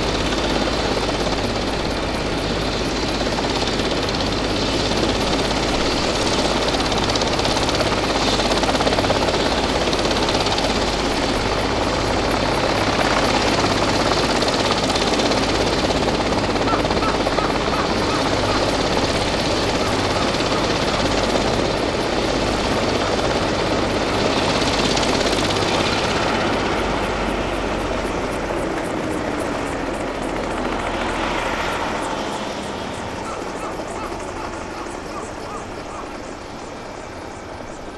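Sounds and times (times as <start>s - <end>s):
helicopter turbine and rotor: 0.0s - 37.9s.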